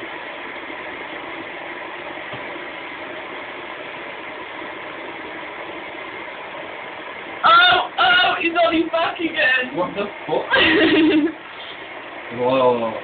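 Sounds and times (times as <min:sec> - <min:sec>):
steady background hum and hiss: 0:00.0 - 0:13.0.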